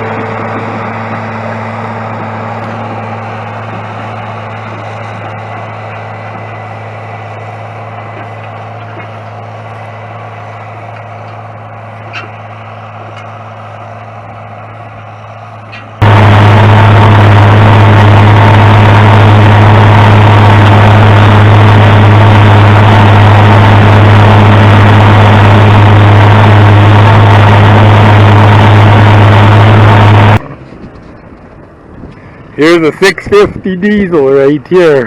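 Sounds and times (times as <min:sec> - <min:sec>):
loud engine droning: 0:00.0 - 0:35.0.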